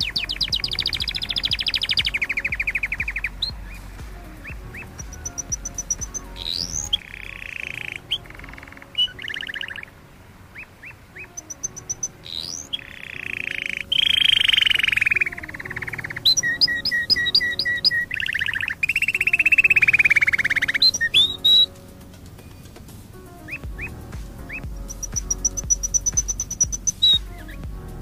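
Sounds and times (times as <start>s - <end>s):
canary singing: 0.0s - 28.0s
faint background music: 0.0s - 28.0s.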